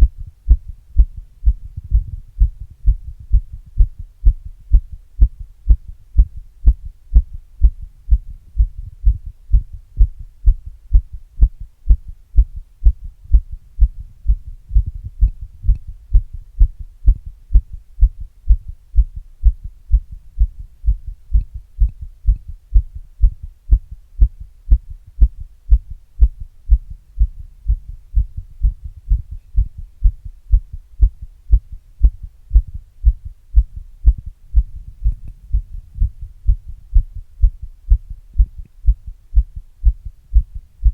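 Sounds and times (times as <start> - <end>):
faint low hum: 0.0 - 40.9
heartbeat thumps: 0.0 - 40.9.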